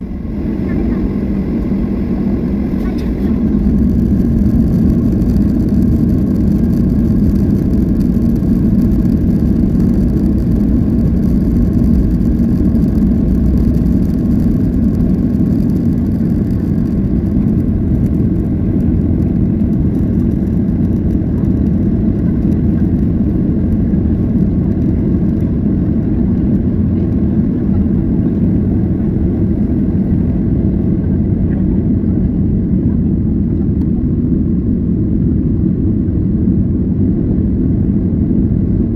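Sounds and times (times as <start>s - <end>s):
engine rumbling: 0.0s - 38.9s.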